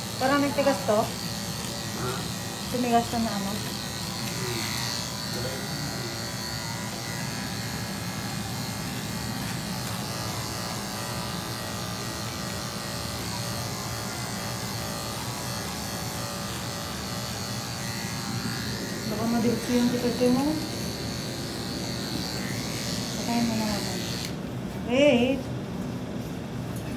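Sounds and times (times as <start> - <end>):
electric clippers buzzing: 0.0 - 24.5.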